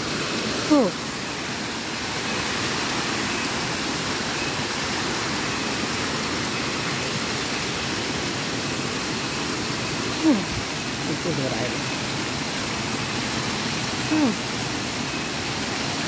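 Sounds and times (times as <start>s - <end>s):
waterfall over rocks: 0.0s - 16.0s.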